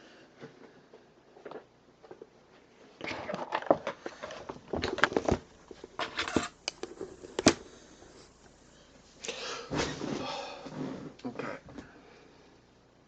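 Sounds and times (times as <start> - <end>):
close-up rustling and handling: 0.3 - 12.0.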